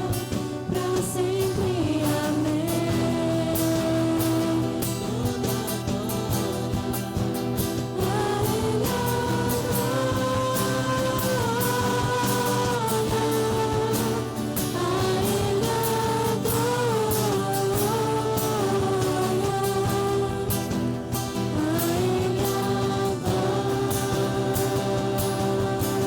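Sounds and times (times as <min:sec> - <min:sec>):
person singing: 0:00.0 - 0:26.0
worship band playing: 0:00.0 - 0:26.0.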